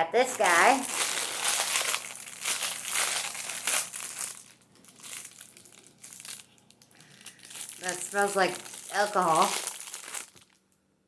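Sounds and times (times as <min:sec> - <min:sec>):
plastic wrapping crinkling: 0:00.2 - 0:10.8.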